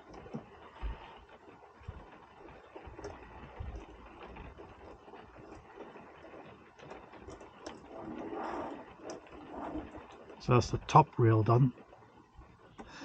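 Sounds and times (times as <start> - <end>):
rustling: 0.0 - 10.5.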